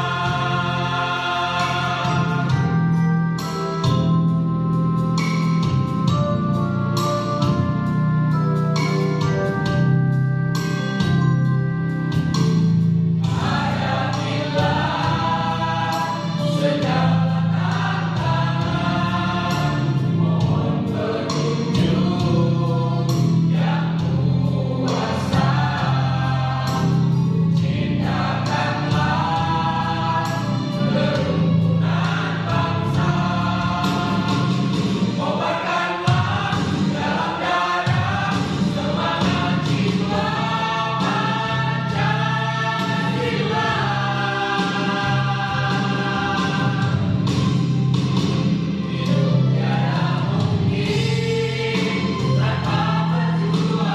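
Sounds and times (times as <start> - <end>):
mixed choir singing: 0.0 - 4.3, 12.3 - 53.9
electronic keyboard: 0.0 - 53.9.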